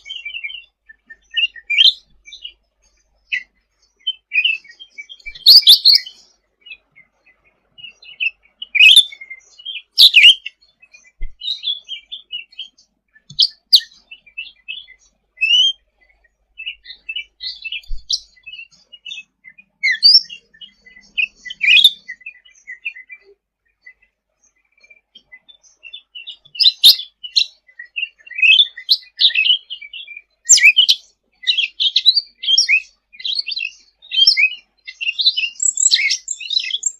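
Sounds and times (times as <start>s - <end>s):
loud sweeping bird calls: 0.0s - 36.9s
songbird chirping and whistling: 0.0s - 36.9s.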